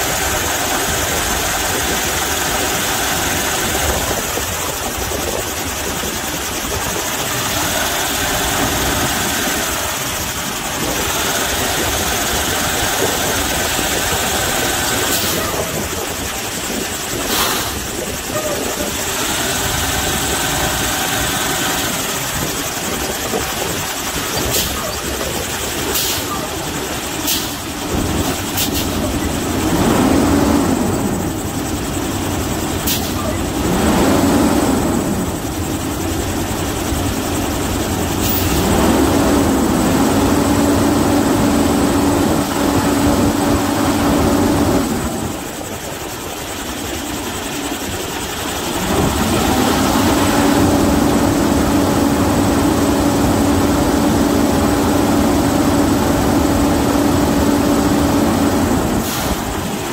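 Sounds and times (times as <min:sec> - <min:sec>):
diesel truck engine revving: 0:00.0 - 0:45.5, 0:47.8 - 0:59.9.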